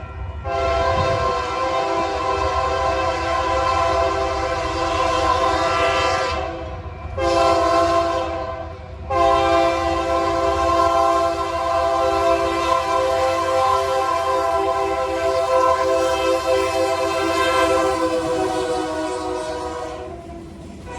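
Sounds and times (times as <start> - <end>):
moving train rumble: 0.0 - 20.9
locomotive air horn chord: 0.4 - 20.3.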